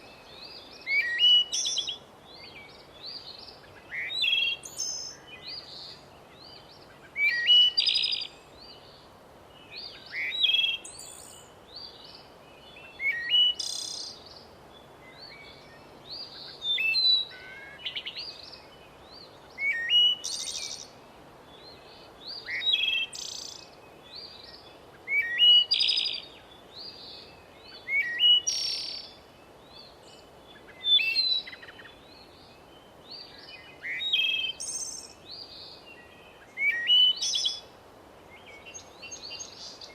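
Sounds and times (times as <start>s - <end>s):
faint background hiss: 0.0s - 39.9s
songbird chirping: 0.0s - 39.9s.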